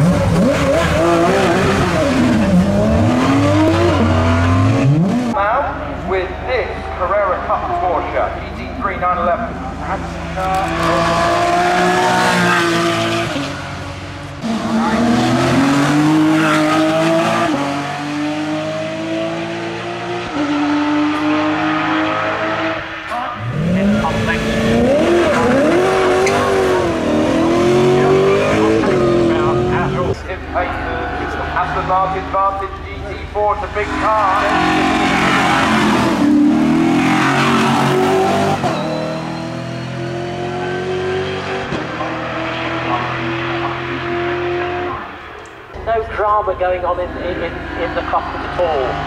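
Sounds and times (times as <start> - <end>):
car engine accelerating hard: 0.0 - 5.9, 9.5 - 45.2.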